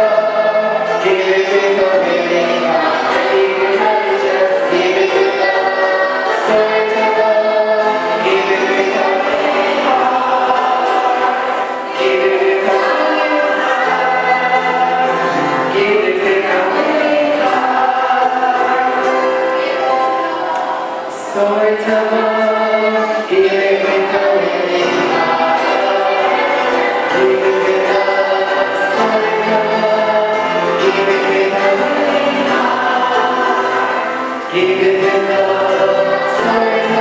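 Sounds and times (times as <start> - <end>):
choir singing a hymn: 0.0 - 37.0.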